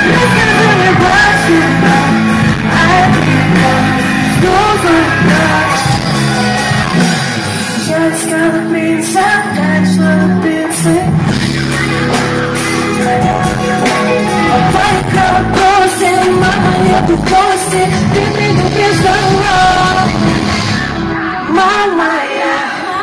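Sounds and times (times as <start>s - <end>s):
live pop music with singing: 0.0s - 23.0s.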